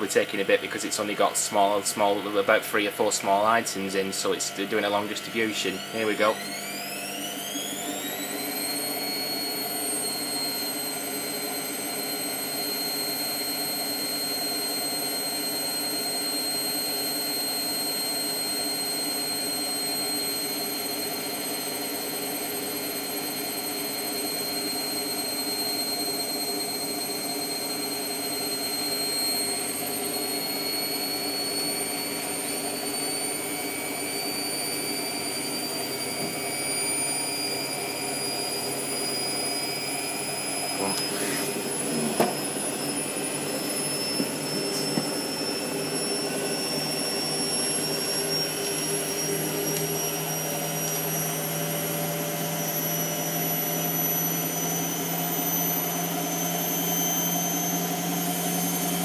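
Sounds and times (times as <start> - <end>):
washing machine spin whine: 0.0 - 59.0.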